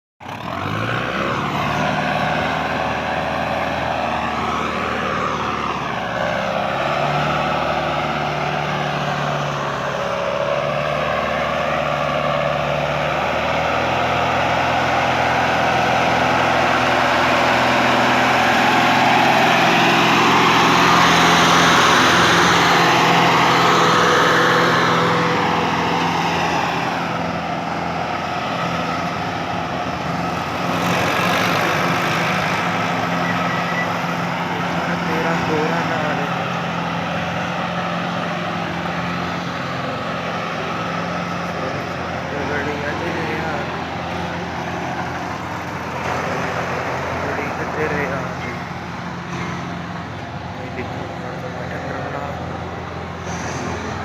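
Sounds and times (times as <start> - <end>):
tractor diesel engine running: 0.2 - 54.0.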